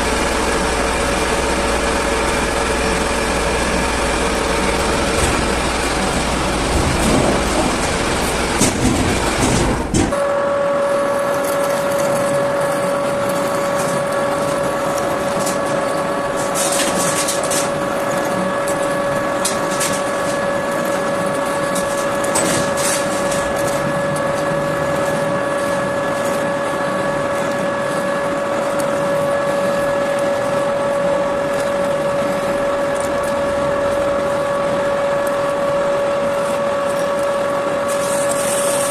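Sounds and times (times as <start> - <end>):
heavy rumbling noise: 0.0 - 38.9
metal lathe whine: 0.0 - 38.9.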